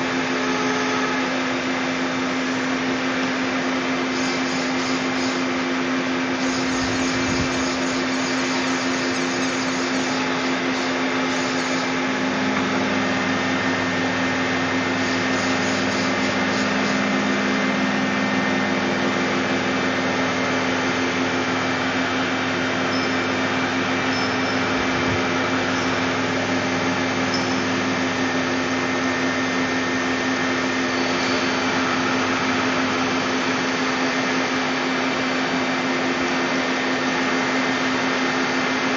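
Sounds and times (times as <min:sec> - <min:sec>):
lathe mechanical hum and whine: 0:00.0 - 0:38.9
lower hum: 0:04.2 - 0:36.1.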